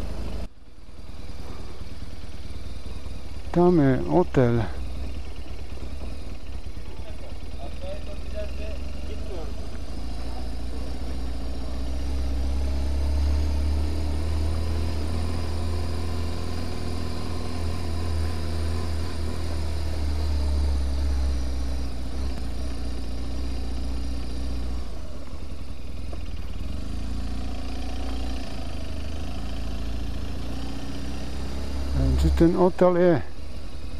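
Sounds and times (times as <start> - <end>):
motorcycle engine at low speed: 0.0 - 33.9.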